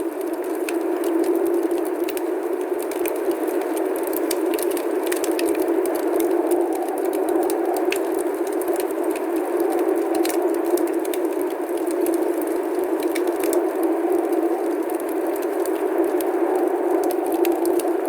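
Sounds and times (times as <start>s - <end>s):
faint crackling ticks: 0.0s - 18.0s.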